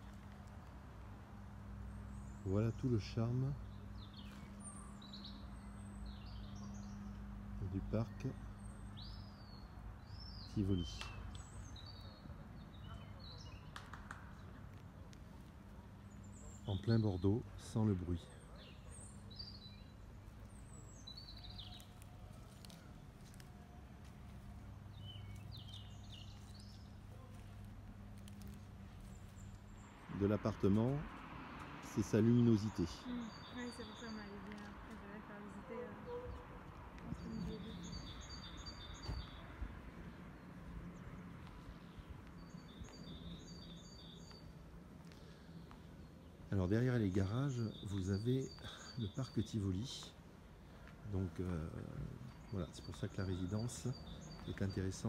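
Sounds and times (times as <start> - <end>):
low outdoor rumble: 0.0 - 55.0
small birds chirping: 0.0 - 55.0
songbird singing: 0.0 - 55.0.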